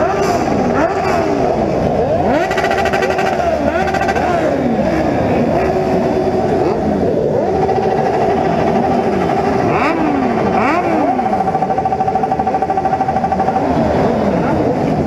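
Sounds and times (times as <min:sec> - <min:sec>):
engine held at high pitch: 0:00.0 - 0:15.0
motorcycle engines revving: 0:00.0 - 0:15.0.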